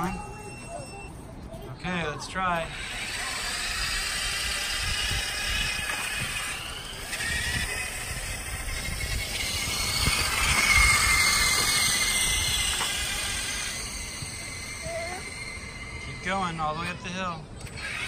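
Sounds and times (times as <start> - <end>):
tyres rolling on pavement: 2.6 - 17.8
electric motor whining: 2.6 - 18.0.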